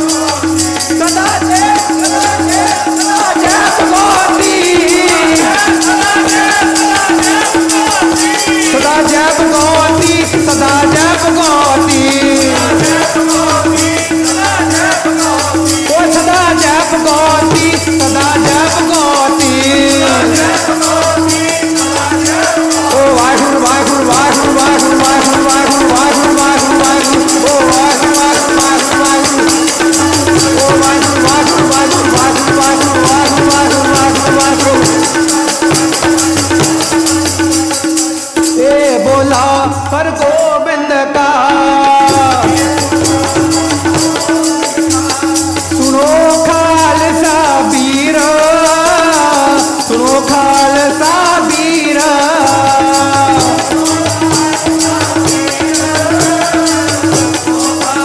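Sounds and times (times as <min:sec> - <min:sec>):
person singing: 0:00.0 - 0:37.2, 0:37.8 - 0:58.0
fast jingling beat: 0:00.0 - 0:58.0
harmonium: 0:00.0 - 0:58.0.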